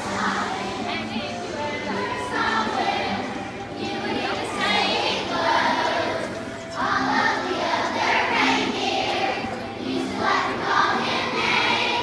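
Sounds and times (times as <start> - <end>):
children's choir singing a carol: 0.0 - 12.0.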